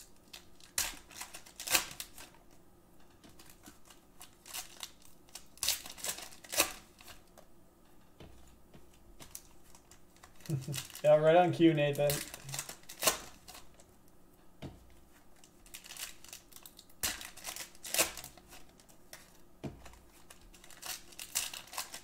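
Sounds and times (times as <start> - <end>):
wrapper crinkling: 0.0 - 2.5, 3.3 - 7.3, 9.2 - 13.9, 15.1 - 22.0.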